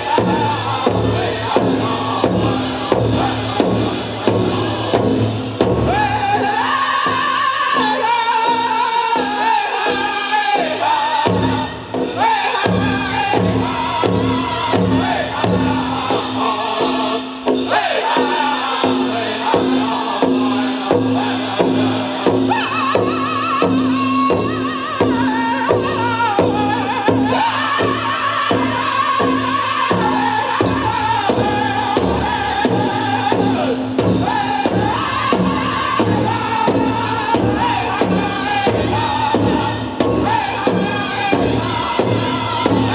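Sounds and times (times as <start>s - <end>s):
big drum beat: 0.0s - 42.9s
men chanting together: 0.0s - 42.9s.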